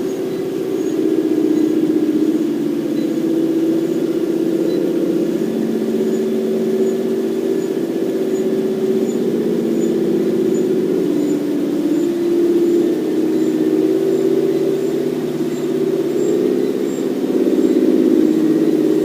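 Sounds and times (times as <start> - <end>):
treadmill motor and belt hum: 0.0 - 19.0.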